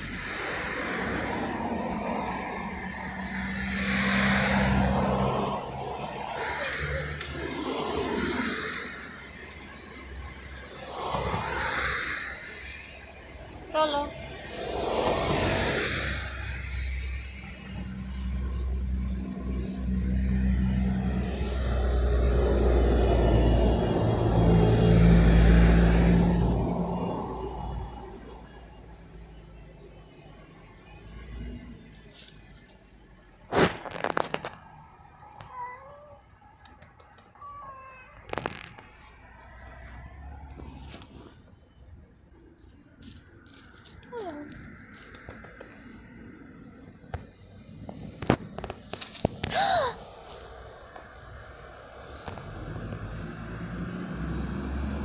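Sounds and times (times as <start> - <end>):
vehicle engine hum: 0.0 - 55.0.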